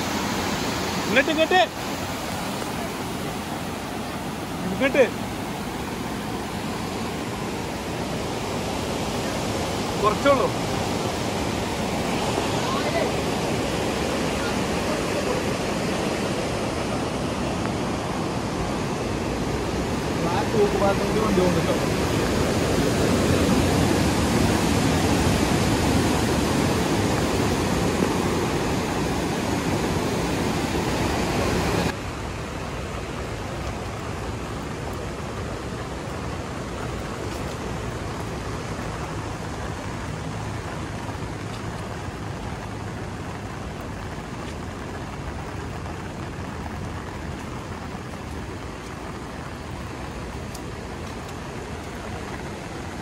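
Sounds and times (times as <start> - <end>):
steady outdoor hiss: 0.0 - 53.0
water rushing through spillway: 0.0 - 53.0.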